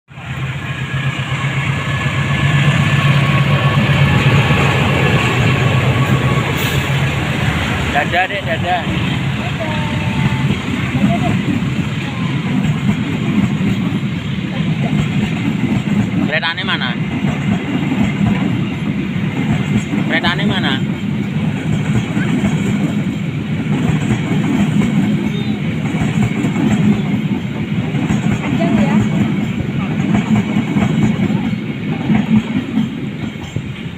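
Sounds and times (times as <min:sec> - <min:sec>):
train cars rumbling over track: 0:00.1 - 0:33.9
train engine drone: 0:00.1 - 0:33.9.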